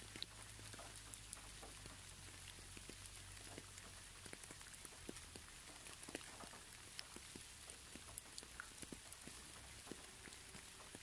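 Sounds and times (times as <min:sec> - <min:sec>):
raindrops ticking: 0:00.0 - 0:11.0.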